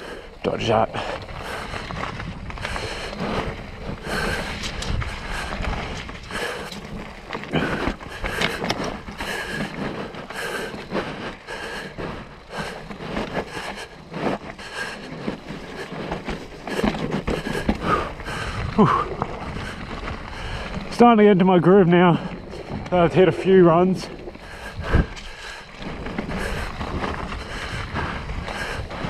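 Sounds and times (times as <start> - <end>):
bike rattling over bumps: 0.0 - 29.0
bike tyre rumble on dirt: 0.0 - 29.0.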